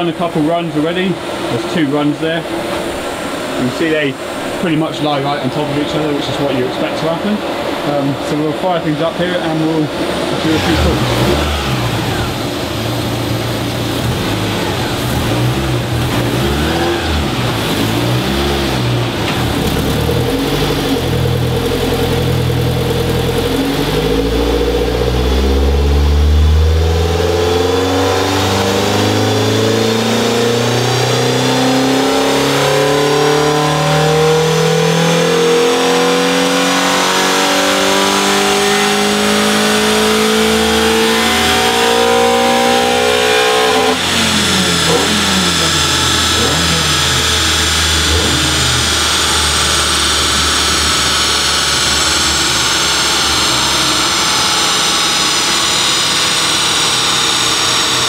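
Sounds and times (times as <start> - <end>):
car engine revving on dyno: 0.0 - 58.0.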